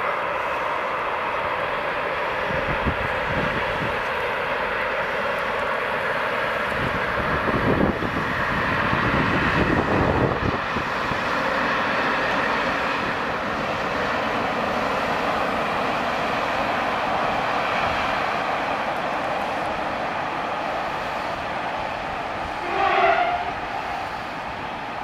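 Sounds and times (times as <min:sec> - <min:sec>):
freight train passing: 0:00.0 - 0:25.0.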